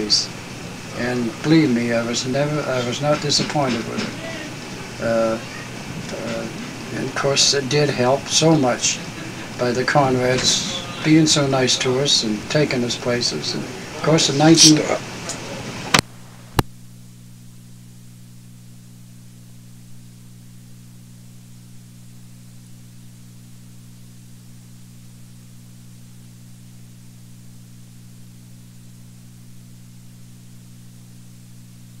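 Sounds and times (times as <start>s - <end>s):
mains hum and buzz: 0.0s - 32.0s
steady hiss: 0.0s - 32.0s.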